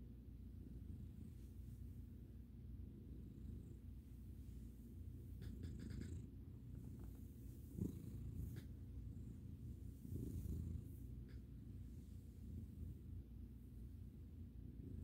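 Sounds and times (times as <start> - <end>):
cat purring: 0.6 - 15.0.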